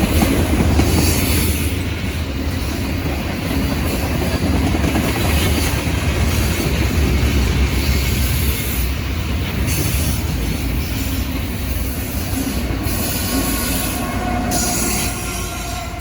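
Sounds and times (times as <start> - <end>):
steel wheels squealing on rail: 0.0 - 4.3, 5.2 - 16.0
freight train rumble: 0.0 - 16.0.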